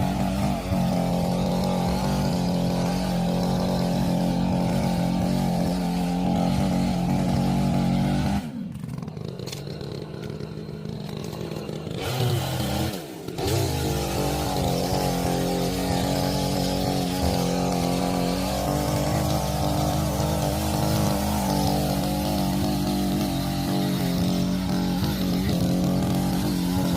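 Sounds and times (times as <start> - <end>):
chainsaw engine revving: 0.0 - 26.9.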